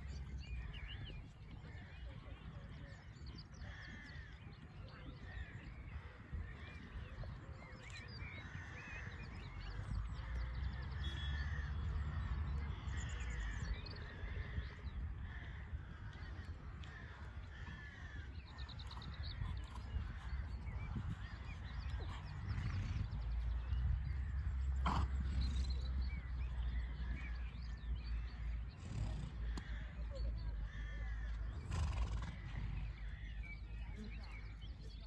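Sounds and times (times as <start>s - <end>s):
wild birds chirping and singing: 0.0s - 35.0s.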